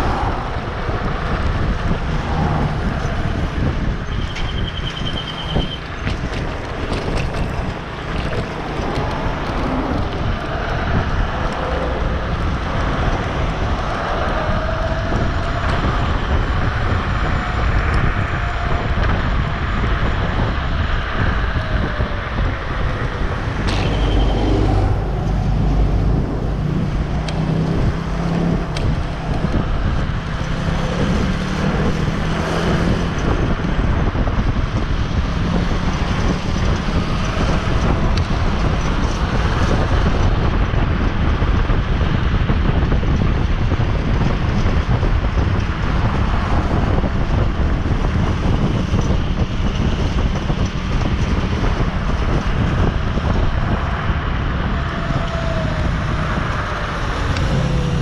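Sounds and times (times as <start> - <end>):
vehicle road noise: 0.0 - 58.0
wind buffeting microphone: 0.0 - 58.0.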